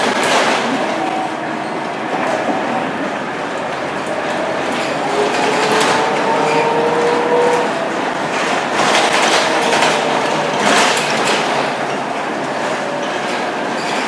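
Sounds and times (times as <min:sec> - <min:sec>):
bus bodywork rattling: 0:00.0 - 0:14.0
bus drivetrain whine: 0:00.0 - 0:14.0.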